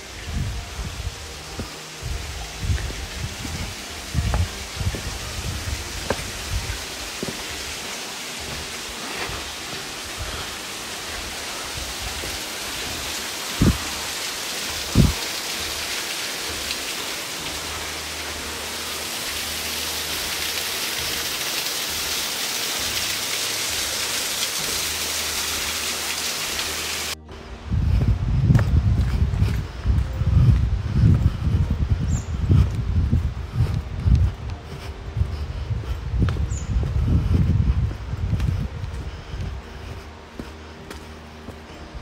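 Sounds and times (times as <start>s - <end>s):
falling water hissing: 0.0s - 42.0s.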